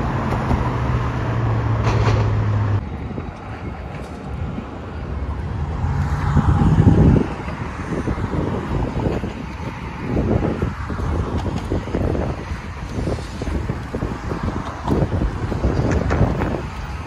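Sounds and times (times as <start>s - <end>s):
urban traffic noise: 0.0s - 17.0s.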